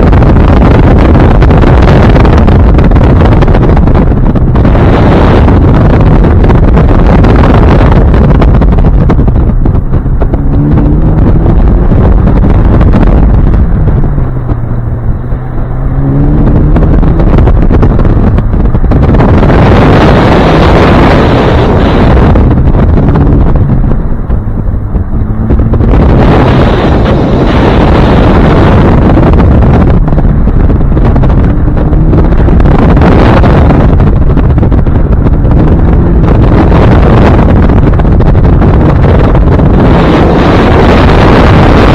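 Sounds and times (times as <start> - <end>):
car engine accelerating: 0.0 - 41.9
wind buffeting microphone: 0.0 - 41.9.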